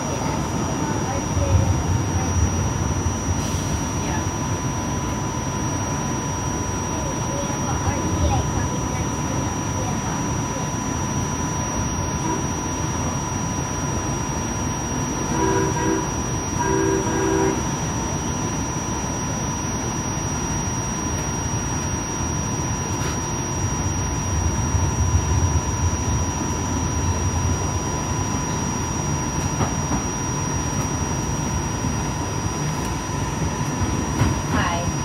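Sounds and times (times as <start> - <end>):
high whine: 0.0 - 35.0
short pitched tone: 2.0 - 33.3.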